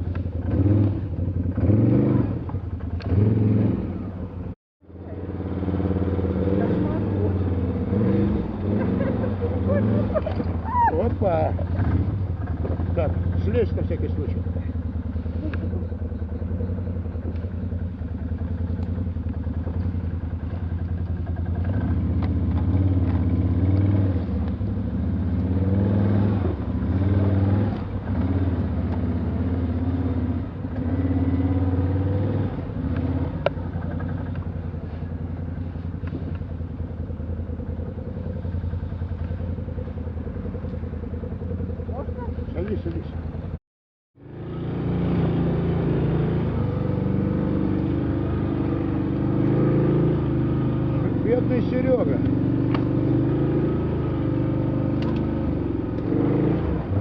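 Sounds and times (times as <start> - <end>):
off-road vehicle engine revving: 0.0 - 43.6, 44.2 - 57.0.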